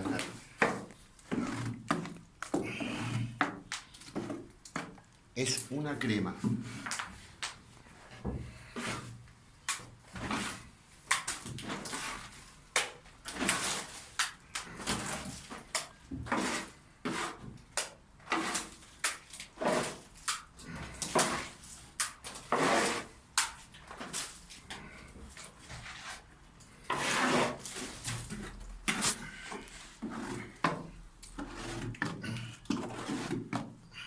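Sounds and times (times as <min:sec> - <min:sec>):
tool scraping wet plaster: 0:00.0 - 0:05.0, 0:08.6 - 0:34.0.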